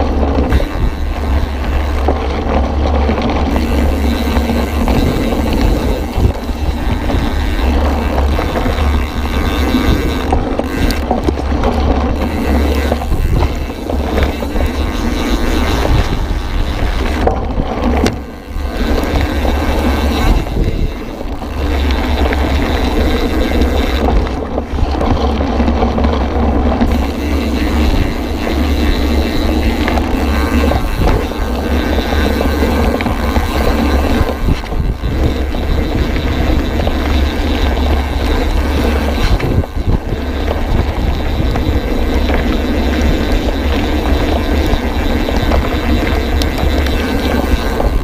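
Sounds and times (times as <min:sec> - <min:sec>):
tyres rumbling over gravel: 0:00.0 - 0:48.0
wind rushing on microphone: 0:00.0 - 0:48.0.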